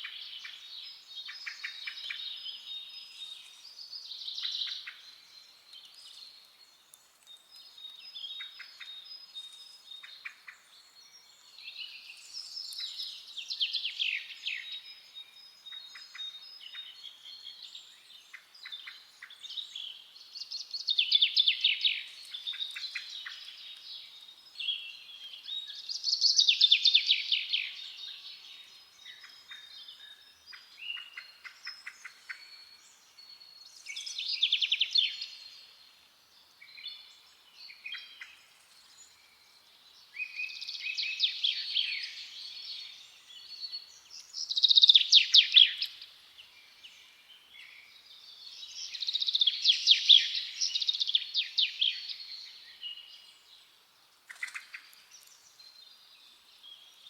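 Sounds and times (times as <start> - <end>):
songbirds singing and calling: 0.0 - 57.0.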